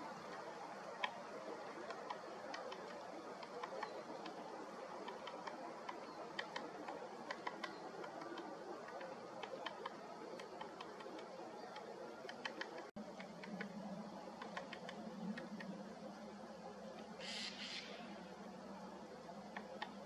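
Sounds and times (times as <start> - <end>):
steady background hiss: 0.0 - 20.0
woodpecker tapping: 0.2 - 15.8, 19.4 - 20.0.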